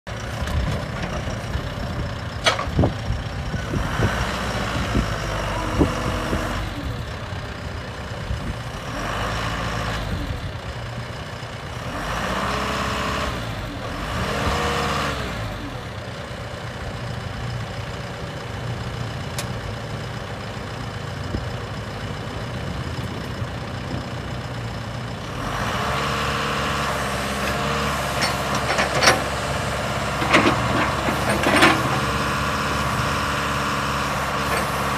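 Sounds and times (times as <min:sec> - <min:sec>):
diesel engine revving: 0:00.1 - 0:34.9.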